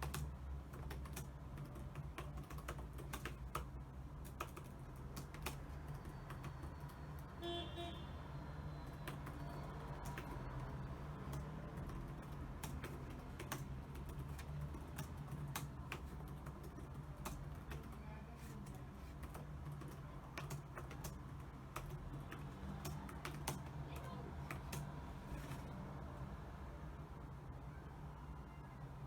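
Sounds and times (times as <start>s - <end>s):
keyboard typing: 0.0s - 7.4s, 8.7s - 25.7s.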